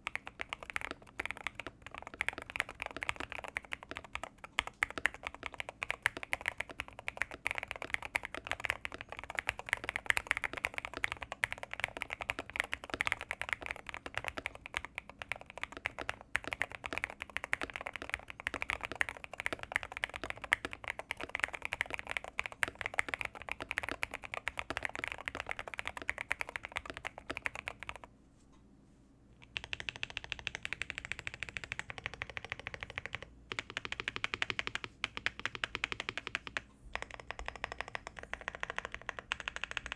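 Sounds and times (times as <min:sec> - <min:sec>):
mechanical keyboard typing: 0:00.0 - 0:28.1, 0:29.4 - 0:39.9.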